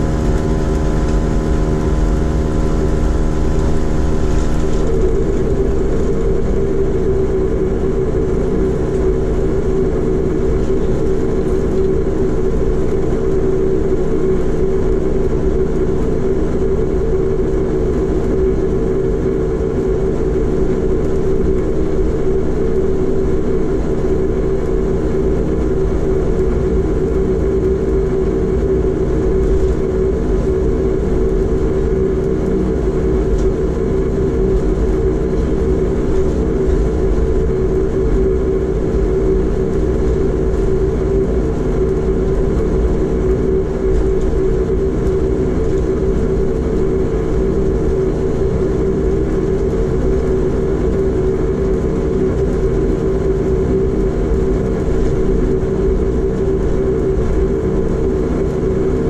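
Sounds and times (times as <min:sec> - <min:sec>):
high whine: 0:00.0 - 0:59.0
turboprop engine droning: 0:00.0 - 0:59.0.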